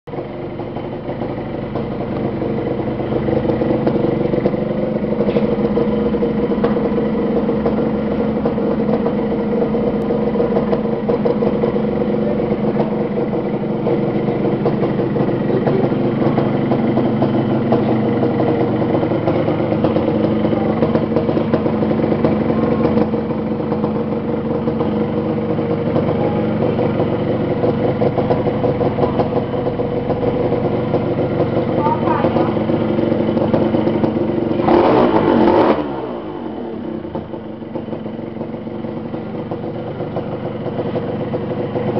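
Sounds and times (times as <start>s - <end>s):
two-stroke motorcycle engine running: 0.1s - 41.9s.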